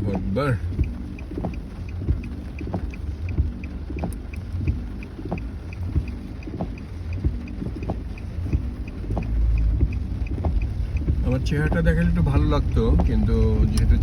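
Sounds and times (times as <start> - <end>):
road and tyre rumble: 0.0 - 14.0
soft regular tick: 0.1 - 14.0.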